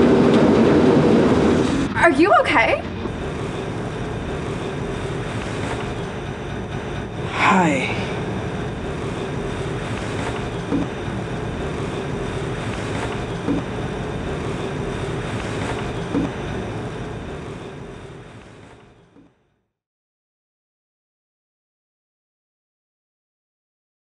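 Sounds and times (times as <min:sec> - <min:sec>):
treadmill motor and belt hum: 0:00.0 - 0:19.4.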